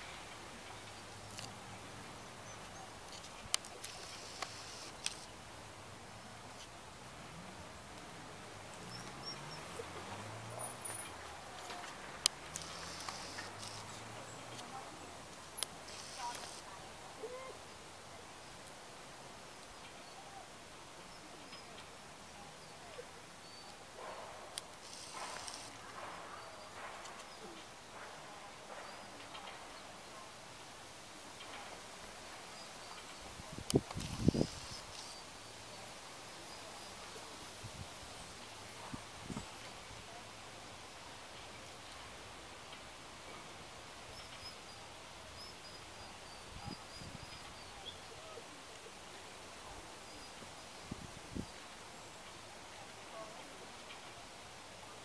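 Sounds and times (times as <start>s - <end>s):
distant voices murmuring: 0.0s - 55.0s
quiet outdoor background noise: 0.0s - 55.0s.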